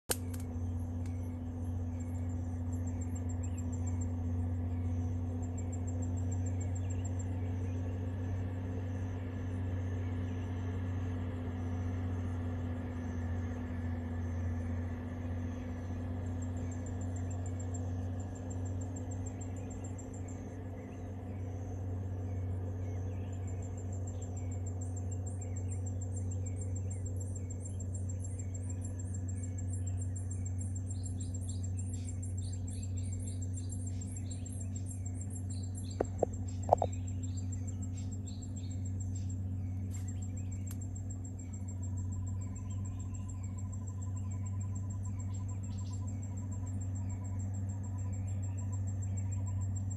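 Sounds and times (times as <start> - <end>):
steady low hum: 0.0 - 49.9
high-pitched insect trill: 0.1 - 49.9.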